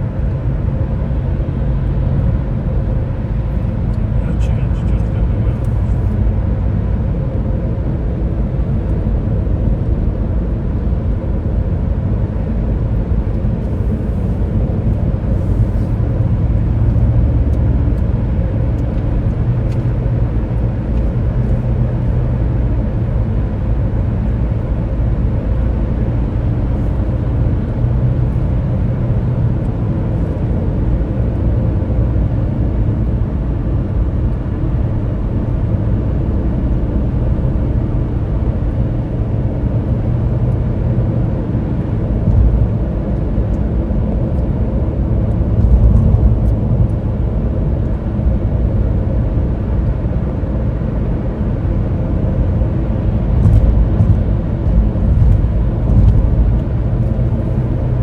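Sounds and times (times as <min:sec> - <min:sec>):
car driving rumble: 0:00.0 - 0:58.0.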